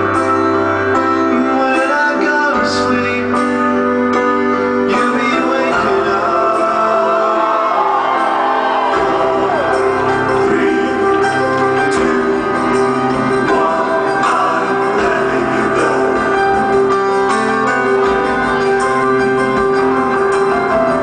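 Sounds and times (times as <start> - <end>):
instrumental accompaniment: 0.0 - 21.0.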